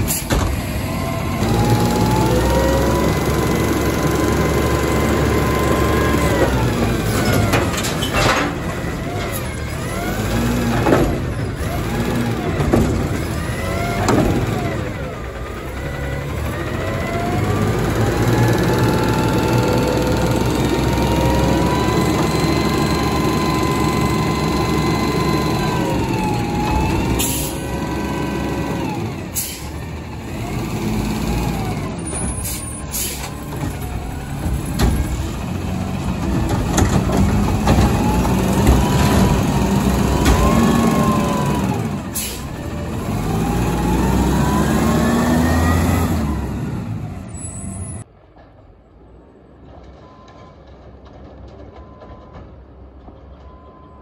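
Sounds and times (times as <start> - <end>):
diesel engine revving: 0.0 - 48.1
distant truck hum: 0.0 - 53.9.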